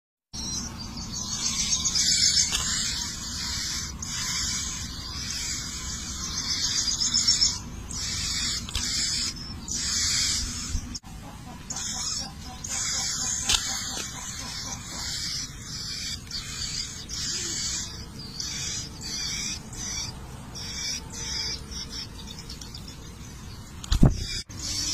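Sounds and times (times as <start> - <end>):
nestlings begging calls: 0.4 - 24.9.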